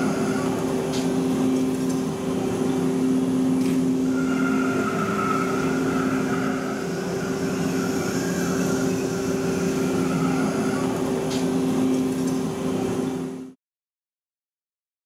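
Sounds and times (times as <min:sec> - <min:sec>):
faint high whine: 0:00.0 - 0:13.6
machine hum with low tones: 0:00.0 - 0:13.6.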